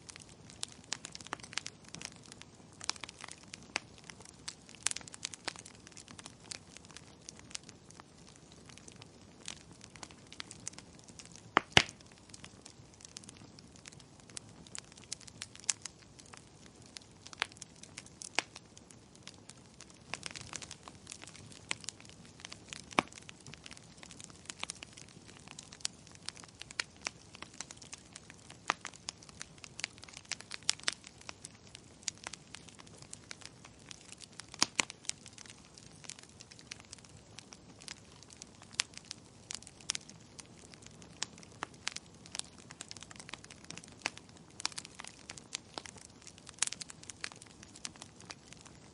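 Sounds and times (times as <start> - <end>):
fireplace fire crackling: 0.0 - 48.9
soft steady hiss: 0.0 - 48.9
sharp pops and snaps: 0.1 - 18.6, 19.2 - 48.8.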